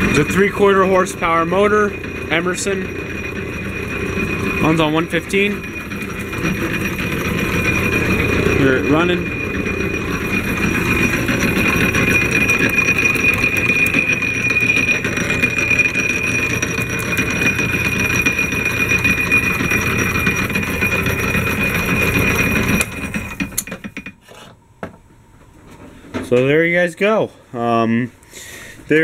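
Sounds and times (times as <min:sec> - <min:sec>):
rapid mechanical clatter: 0:00.0 - 0:24.2
drill press running: 0:00.0 - 0:24.4.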